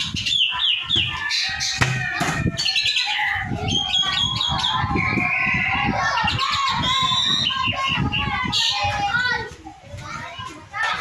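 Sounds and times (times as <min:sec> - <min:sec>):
starling singing: 0:00.0 - 0:09.1.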